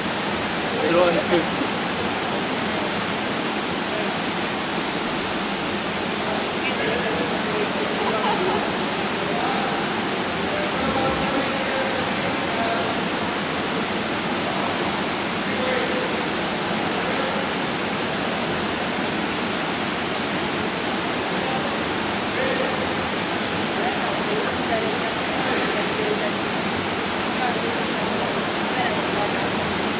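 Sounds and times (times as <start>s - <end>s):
swimming pool hall ambience: 0.0s - 29.9s.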